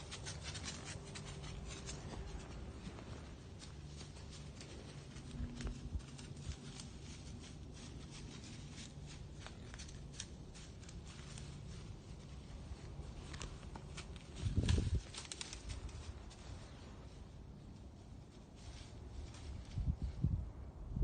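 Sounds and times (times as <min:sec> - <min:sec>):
faint rustling with clicks: 0:00.0 - 0:17.2
faint low steady hum: 0:00.0 - 0:21.0.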